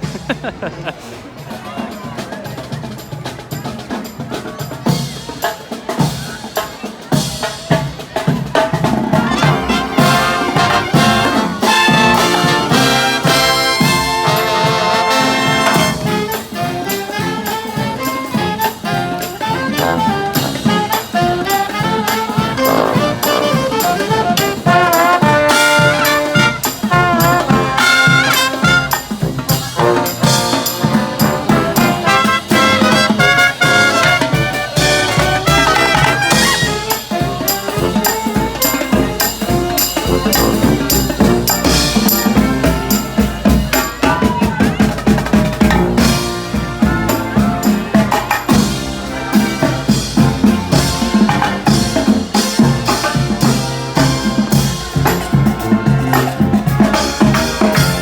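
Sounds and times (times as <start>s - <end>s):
brass marching band: 0.0s - 58.0s
drum strokes: 0.0s - 58.0s.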